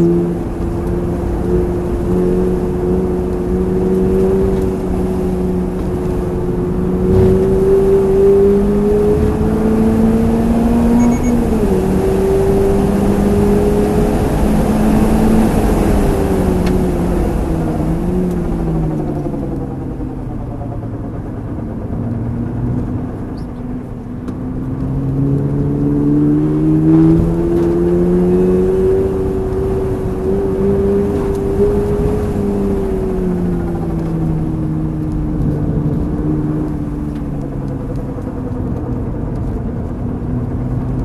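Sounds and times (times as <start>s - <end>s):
car engine: 0.0s - 41.0s
road rumble: 0.0s - 41.0s.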